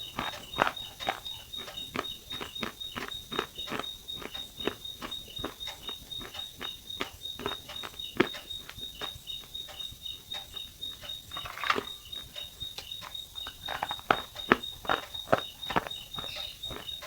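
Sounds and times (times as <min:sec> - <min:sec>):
chewing crunches: 0:00.0 - 0:17.0.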